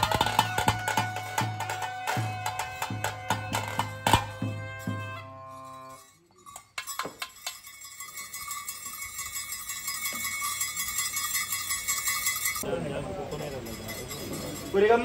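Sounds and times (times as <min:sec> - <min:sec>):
metal bells ringing rapidly: 0:00.0 - 0:15.0.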